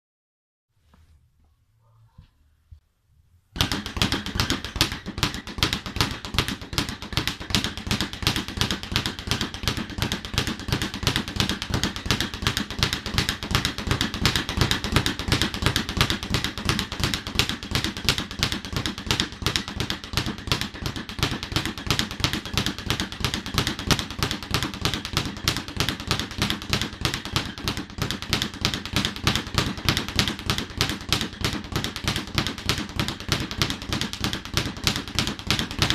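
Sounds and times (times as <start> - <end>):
speed bag rattling: 3.6 - 35.9.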